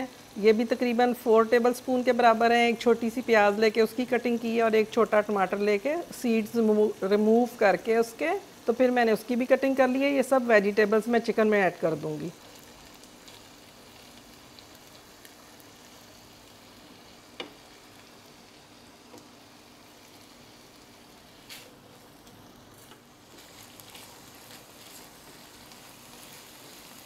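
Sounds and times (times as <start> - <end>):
food sizzling in pan: 0.0 - 27.0.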